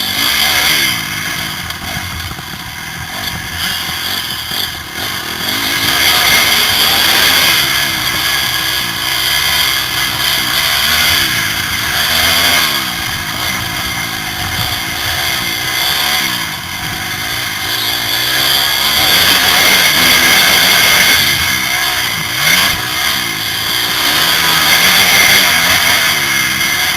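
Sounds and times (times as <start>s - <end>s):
constant rush of noise: 0.0s - 26.9s
motocross bike engine revving: 0.0s - 26.9s.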